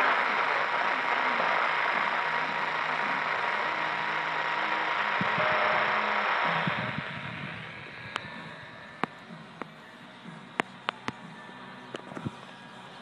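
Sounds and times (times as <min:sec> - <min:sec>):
radio static hiss: 0:00.0 - 0:11.4
faint wavering radio signals: 0:00.0 - 0:13.0.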